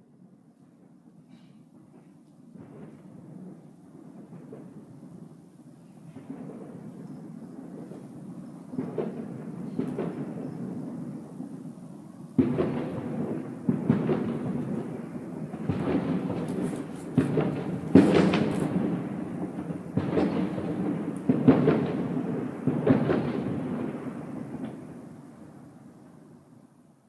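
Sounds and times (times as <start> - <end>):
fireworks booming: 0.8 - 25.9
fireworks crackling: 1.7 - 26.6.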